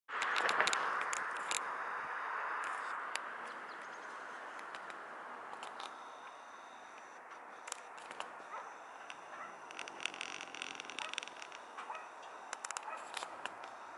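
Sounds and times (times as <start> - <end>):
steady hiss of distant noise: 0.2 - 13.9.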